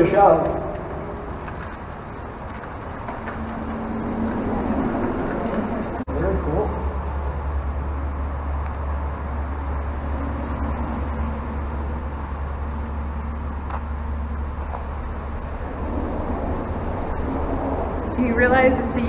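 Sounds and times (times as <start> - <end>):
traffic rumbling overhead: 0.0 - 19.0.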